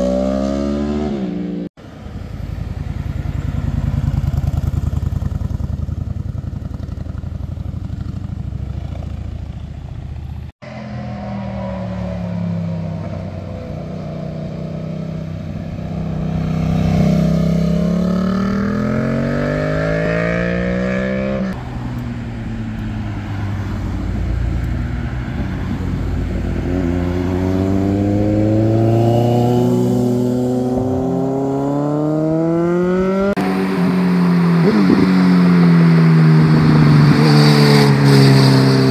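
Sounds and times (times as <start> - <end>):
motorcycle rumbling away: 0.0 - 38.9
motorcycles accelerating: 0.0 - 38.9.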